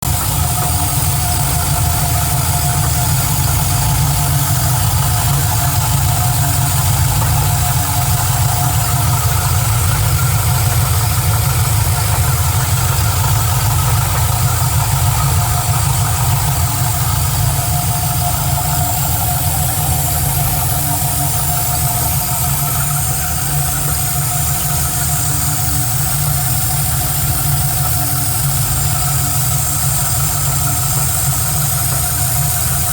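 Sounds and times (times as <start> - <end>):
engine idling: 0.0 - 32.9
engine knocking noise: 0.0 - 32.9.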